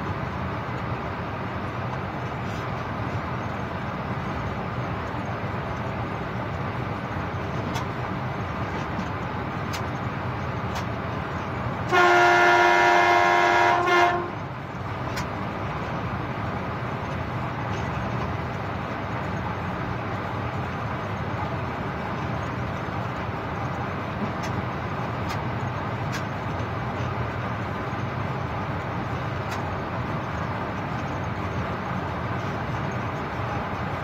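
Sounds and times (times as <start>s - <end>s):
train running noise: 0.0s - 34.0s.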